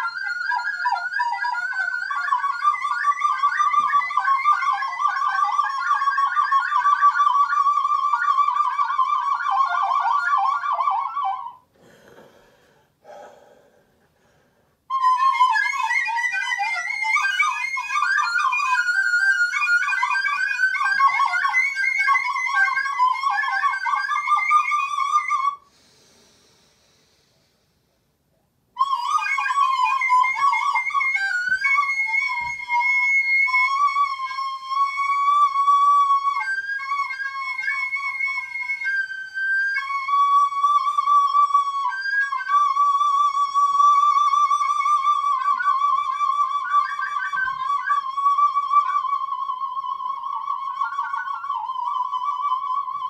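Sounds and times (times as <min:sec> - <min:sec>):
small wind instrument melody: 0:00.0 - 0:11.7, 0:14.8 - 0:26.0, 0:28.7 - 0:53.0.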